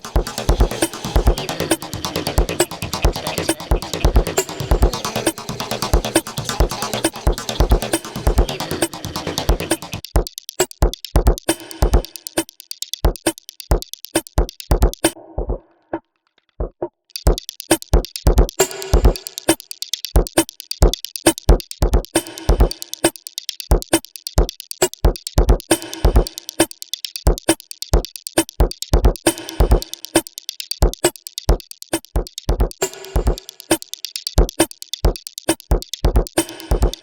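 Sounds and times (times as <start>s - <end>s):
electronic beat loop: 0.0s - 15.6s, 17.1s - 37.0s.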